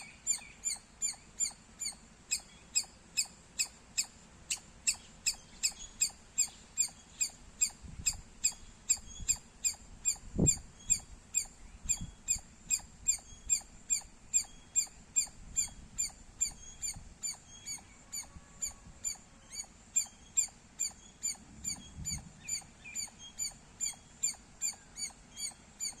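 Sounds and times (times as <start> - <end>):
squirrel chirping: 0.0 - 26.0.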